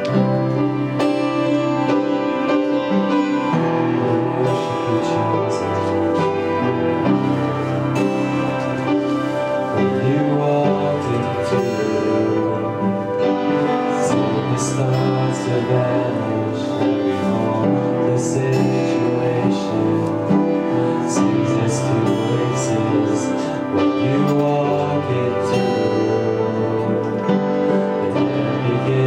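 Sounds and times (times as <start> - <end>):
live church band worship music: 0.0 - 29.0.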